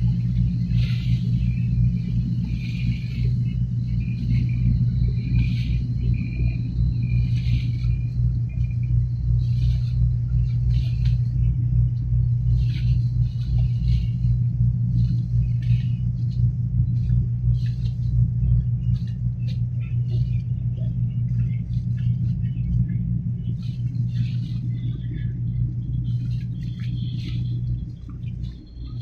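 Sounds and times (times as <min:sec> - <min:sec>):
boat engine humming: 0:00.0 - 0:29.0
water splashing against hull: 0:00.0 - 0:29.0.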